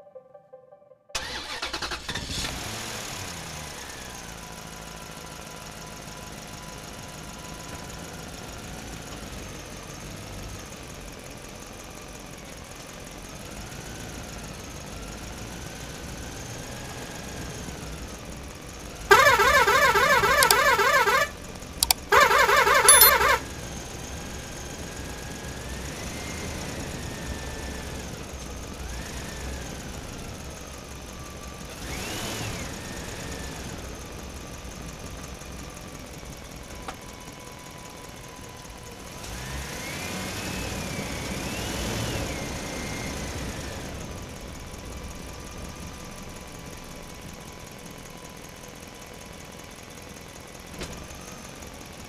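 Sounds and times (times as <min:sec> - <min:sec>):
truck engine revving with whine: 0:01.2 - 0:48.5.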